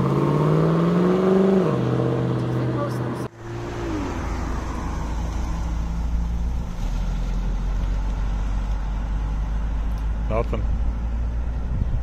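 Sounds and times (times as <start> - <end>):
car engine pulling away: 0.0 - 11.8.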